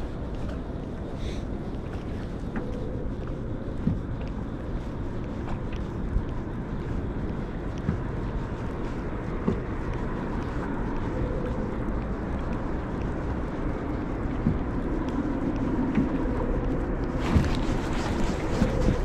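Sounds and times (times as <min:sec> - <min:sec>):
faint steady hum: 0:00.0 - 0:19.0
low outdoor rumble: 0:00.0 - 0:19.0.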